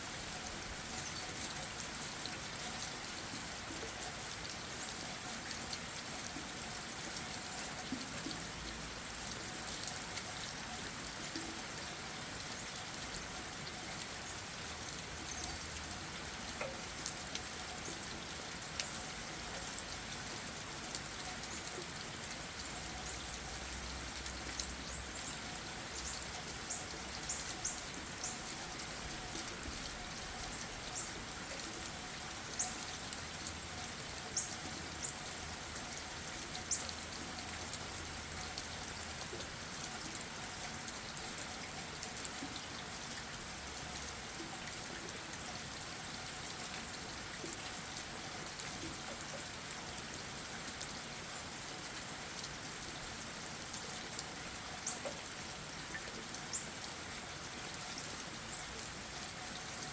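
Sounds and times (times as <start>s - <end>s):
rain on leaves and ground: 0.0s - 59.9s
water drip ticks: 0.1s - 59.9s.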